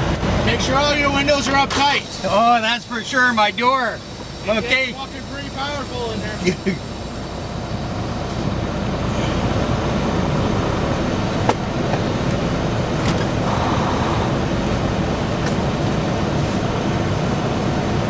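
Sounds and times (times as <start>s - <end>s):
muffled water jets rushing: 0.0s - 18.0s.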